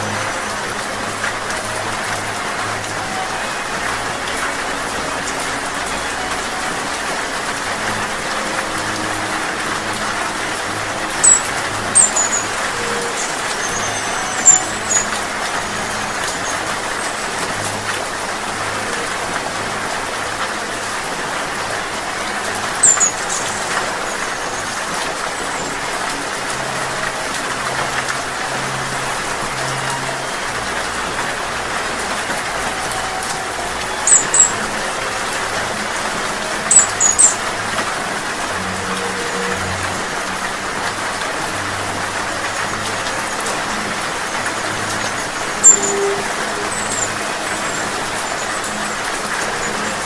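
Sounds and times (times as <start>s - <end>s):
hummingbird high-pitched chips: 0.0s - 20.0s, 20.9s - 50.0s
steady rain: 0.0s - 50.0s.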